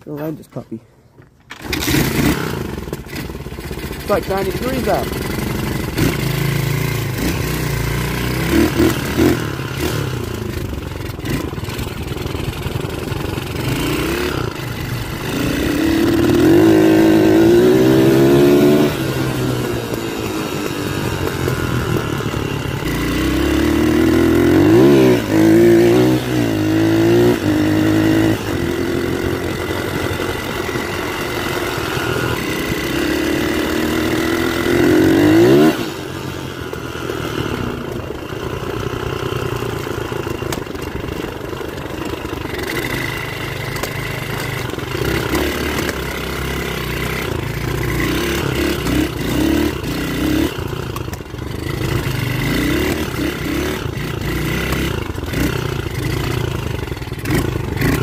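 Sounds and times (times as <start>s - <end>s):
dirt bike engine revving: 1.5s - 58.0s.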